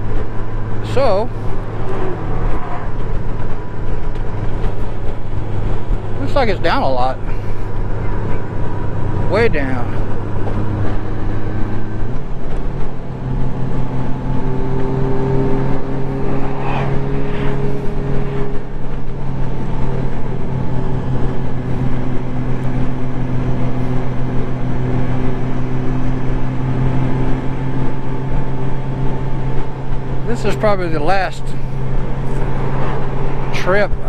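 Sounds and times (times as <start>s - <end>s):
motorcycle engine drone: 0.0s - 34.0s
wind and road noise: 0.0s - 34.0s.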